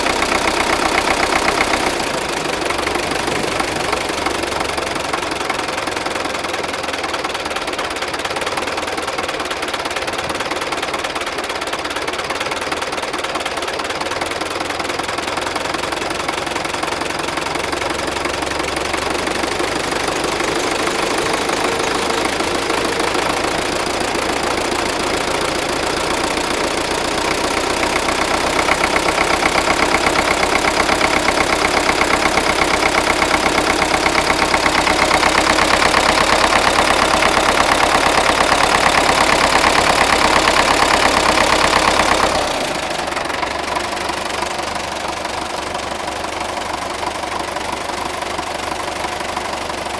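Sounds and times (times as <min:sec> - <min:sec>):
tractor diesel engine knocking: 0:00.0 - 0:49.9.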